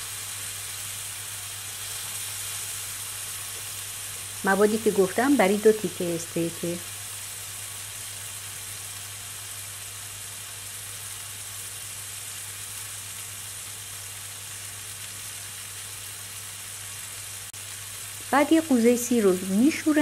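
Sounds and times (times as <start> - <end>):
meat sizzling in a grill pan: 0.0 - 20.0.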